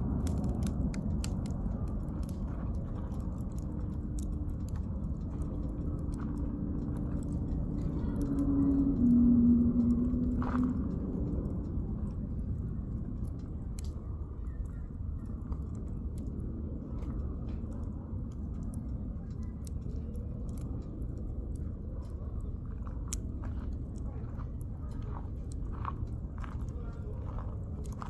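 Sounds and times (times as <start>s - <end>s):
campfire popping and crackling: 0.0s - 28.0s
low steady rumble: 0.0s - 28.0s.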